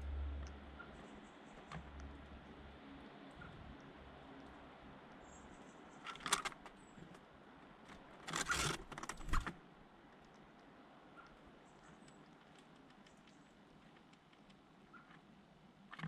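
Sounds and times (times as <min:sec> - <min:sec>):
birds scuffling clicking and tapping: 0:00.0 - 0:16.0.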